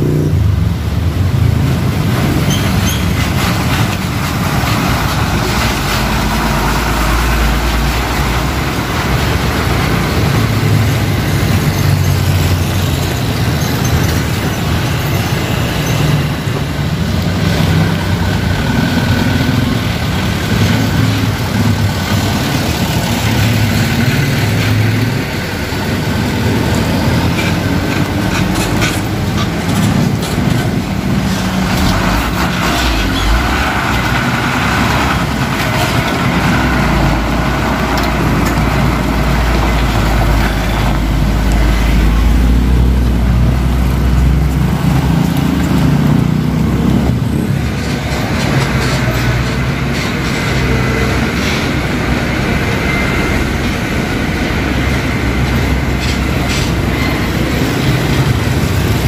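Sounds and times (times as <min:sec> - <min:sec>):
diesel truck engines rumbling: 0:00.0 - 0:59.0.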